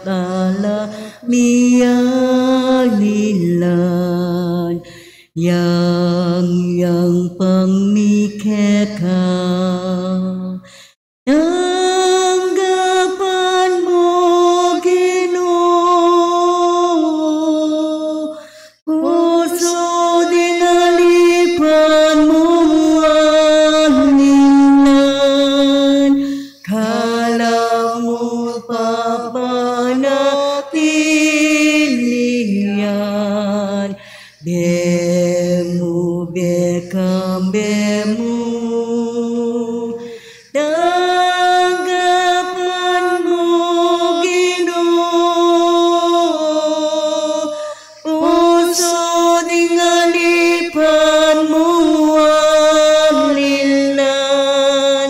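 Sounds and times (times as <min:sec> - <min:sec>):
slow hymn singing: 0:00.0 - 0:10.7, 0:11.3 - 0:55.0.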